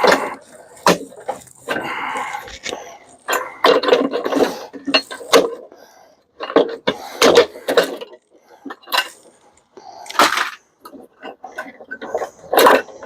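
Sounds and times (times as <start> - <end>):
metal parts clanking and rattling: 0.0 - 5.8, 6.4 - 9.4, 10.0 - 13.0.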